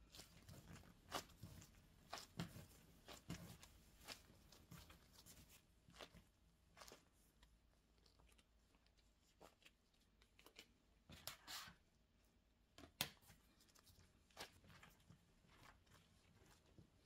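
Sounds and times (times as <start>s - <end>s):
sticky sounds of dough being stretched: 0.0s - 17.0s.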